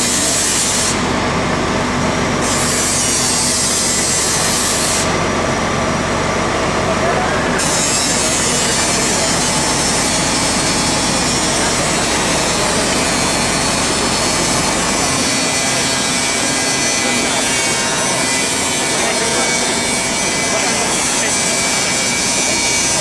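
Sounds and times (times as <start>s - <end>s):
angle grinder cutting metal: 0.0s - 1.1s, 2.4s - 5.2s, 7.6s - 23.0s.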